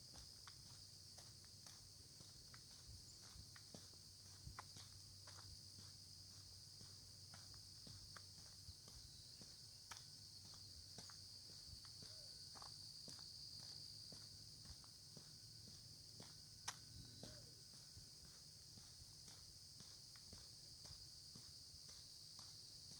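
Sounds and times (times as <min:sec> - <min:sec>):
soft footsteps: 0:00.0 - 0:22.9.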